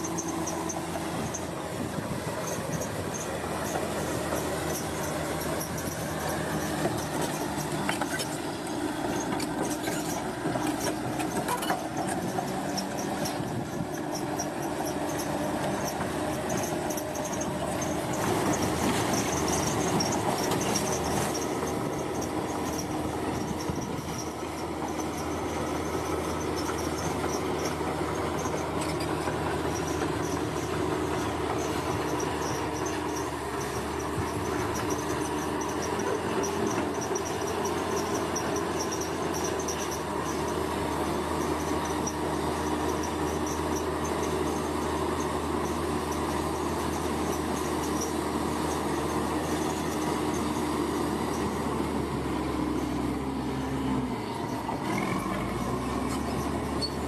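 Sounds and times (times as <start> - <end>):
construction machinery engines droning: 0.0 - 57.0.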